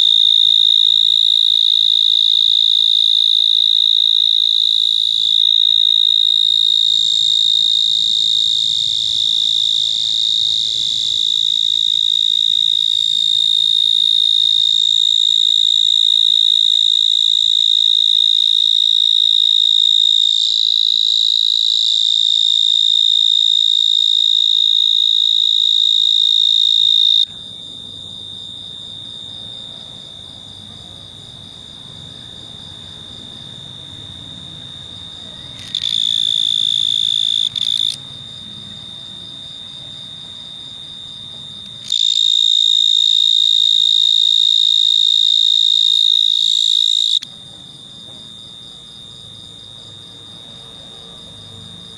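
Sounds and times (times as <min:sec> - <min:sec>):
mole cricket trilling: 0:00.0 - 0:51.9.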